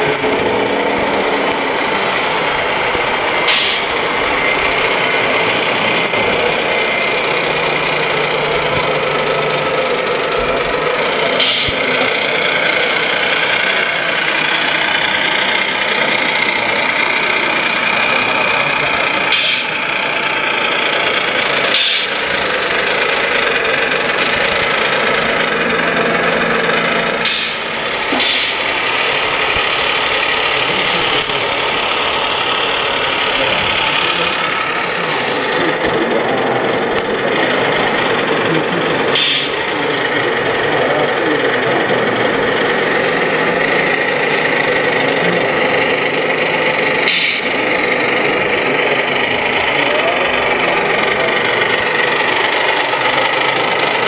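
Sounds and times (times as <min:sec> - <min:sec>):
model truck diesel engine idling: 0:00.0 - 0:54.0.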